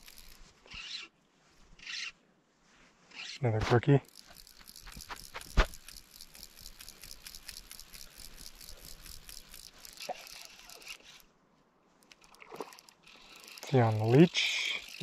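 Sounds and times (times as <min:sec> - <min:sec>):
fishing reel drag ticking: 0:00.0 - 0:01.1, 0:01.8 - 0:02.1, 0:03.1 - 0:11.3, 0:12.0 - 0:15.0.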